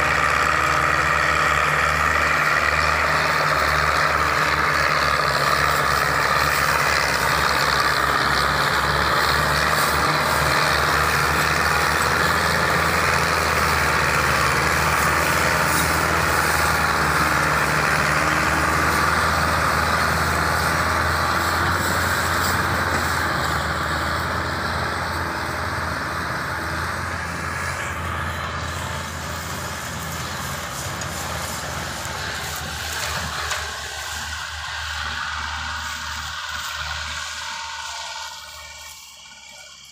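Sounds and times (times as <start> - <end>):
tractor diesel engines under load: 0.0 - 39.9.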